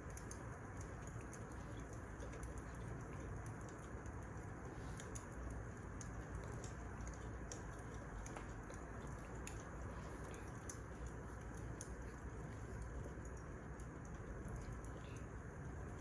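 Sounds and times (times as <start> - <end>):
wood fire crackling and hissing: 0.0 - 16.0.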